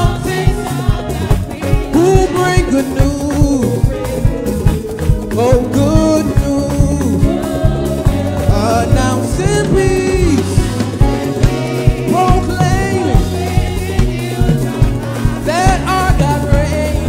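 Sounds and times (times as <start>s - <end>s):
gospel band with singers: 0.0s - 17.0s.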